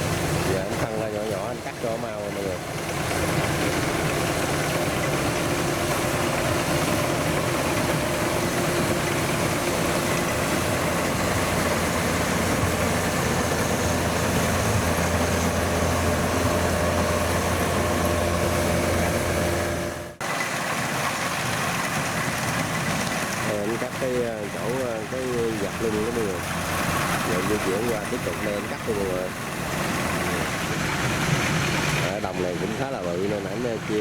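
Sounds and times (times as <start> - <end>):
combine harvester running: 0.0 - 34.0.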